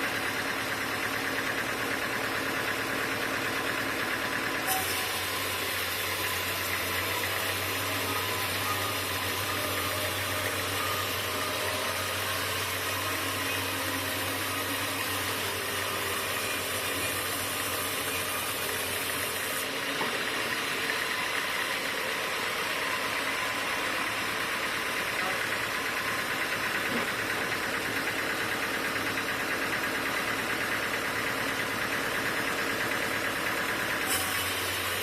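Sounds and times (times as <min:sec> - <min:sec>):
sawmill machinery running: 0:00.0 - 0:35.0.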